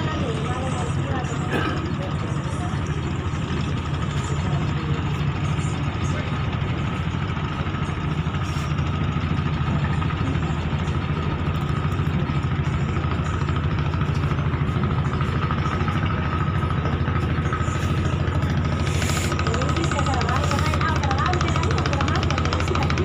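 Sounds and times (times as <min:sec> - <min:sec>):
ship diesel engines rumbling: 0:00.0 - 0:23.0
steady engine whine: 0:00.0 - 0:23.0.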